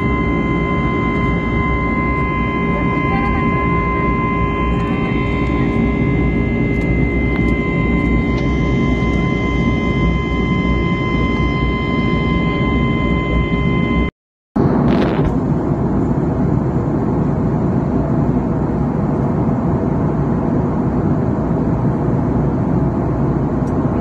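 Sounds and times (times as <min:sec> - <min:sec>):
jet engine rush and whine: 0:00.0 - 0:24.0.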